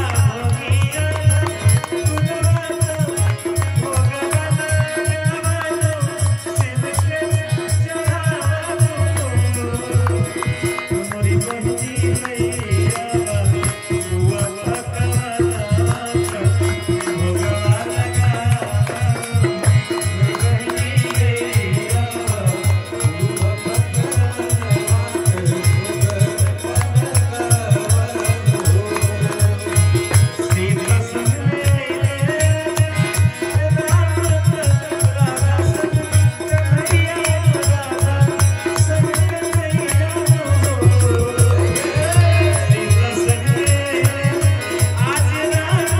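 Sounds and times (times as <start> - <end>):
dholak drum beat: 0.0 - 45.9
harmonium: 0.0 - 45.9
man singing: 0.0 - 45.9
rattling percussion: 0.0 - 45.9.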